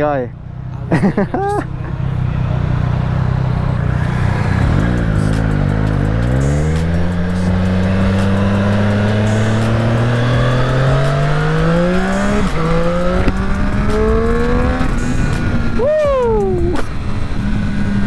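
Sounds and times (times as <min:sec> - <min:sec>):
motorcycle engine accelerating: 0:00.4 - 0:18.0.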